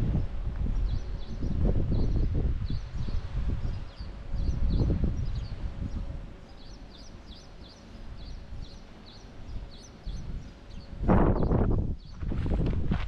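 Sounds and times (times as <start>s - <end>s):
bird chirping: 0.8s - 12.3s.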